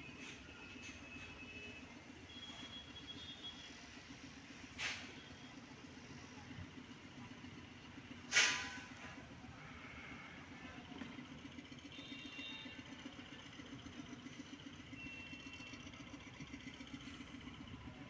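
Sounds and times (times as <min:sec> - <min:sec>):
engine idling hum: 0:00.0 - 0:18.0.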